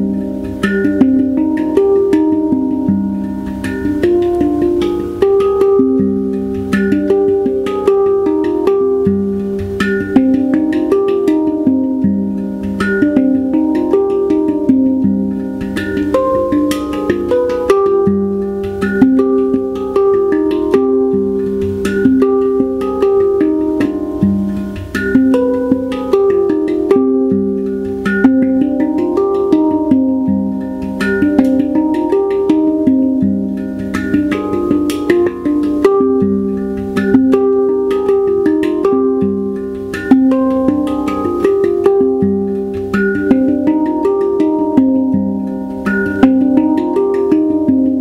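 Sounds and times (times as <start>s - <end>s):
handpan melody: 0.0s - 48.0s.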